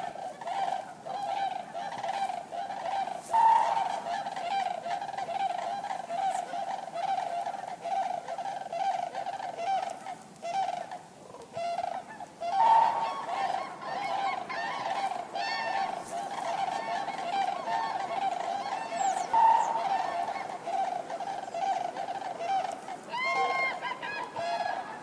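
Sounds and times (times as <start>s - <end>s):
cranes honking calls: 0.0s - 25.0s.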